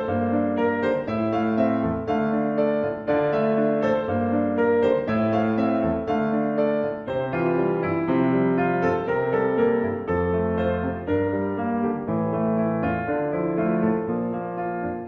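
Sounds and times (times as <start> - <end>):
light piano melody: 0.0 - 15.0.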